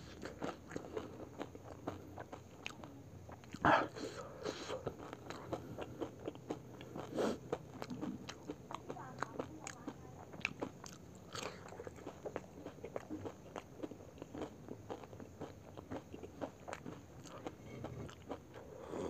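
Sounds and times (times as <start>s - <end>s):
crunchy food chewing: 0.0s - 19.0s.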